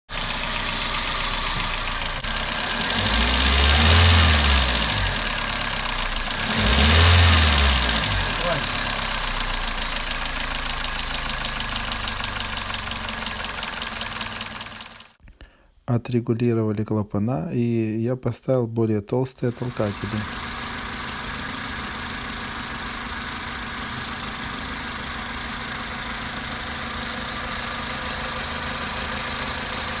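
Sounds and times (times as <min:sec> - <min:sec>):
engine running with rapid ticking: 0:00.1 - 0:15.2, 0:19.6 - 0:30.0.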